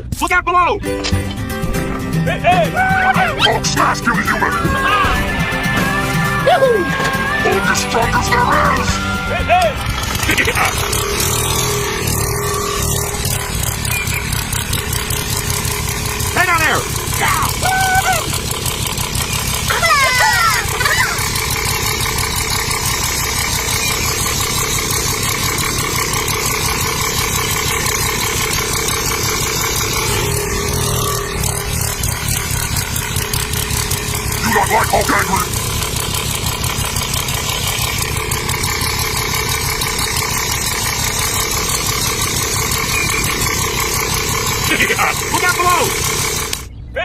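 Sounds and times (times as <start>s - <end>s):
small engine droning: 1.0s - 46.9s.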